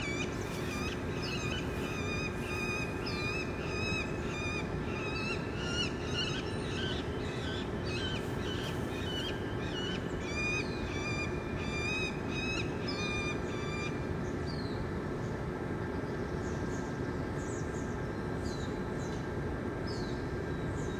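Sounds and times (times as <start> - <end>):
low background hum: 0.0 - 20.9.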